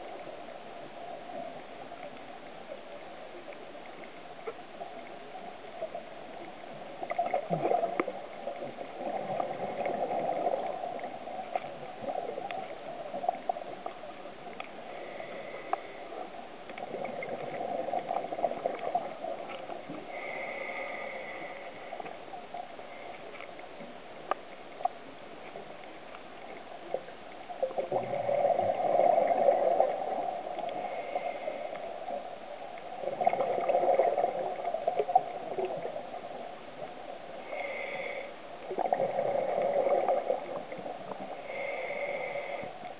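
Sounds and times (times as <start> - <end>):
underwater bubbles gurgling: 0.0 - 42.9.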